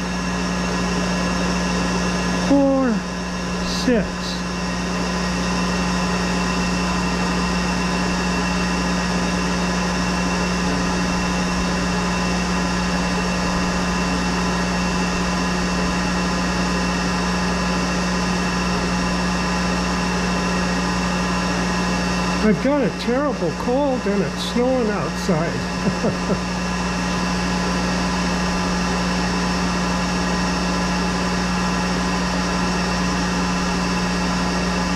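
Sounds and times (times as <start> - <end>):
lathe running: 0.0 - 34.9.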